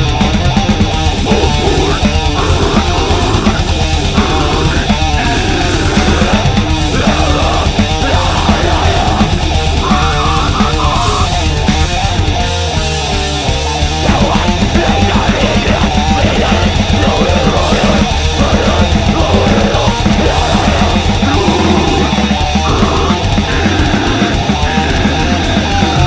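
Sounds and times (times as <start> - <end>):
distorted electric guitars: 0.0 - 26.0
fast loud drums: 0.0 - 26.0.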